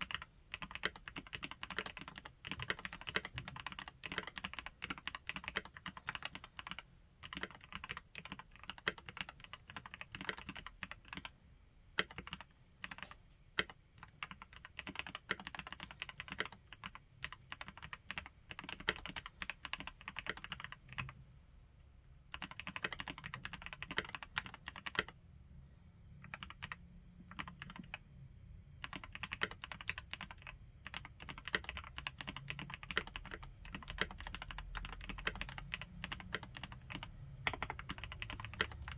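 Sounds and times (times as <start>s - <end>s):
mechanical keyboard typing: 0.0s - 11.3s, 12.0s - 21.1s, 22.3s - 25.2s, 26.2s - 28.0s, 28.8s - 38.9s.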